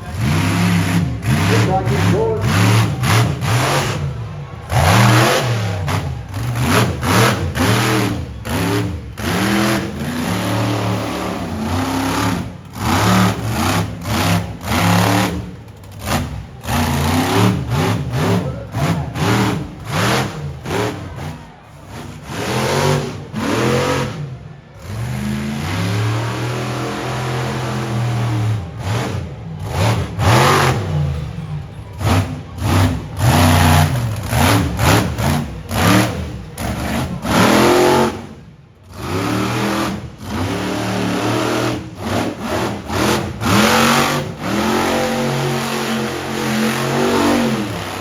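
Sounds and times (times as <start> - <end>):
truck engine revving hard: 0.0 - 48.0.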